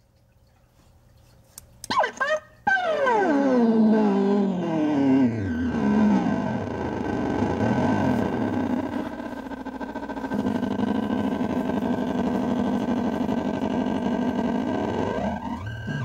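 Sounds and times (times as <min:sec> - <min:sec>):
electronic pitch sweeps: 0:01.9 - 0:16.0
distorted electronic drone: 0:02.8 - 0:16.0.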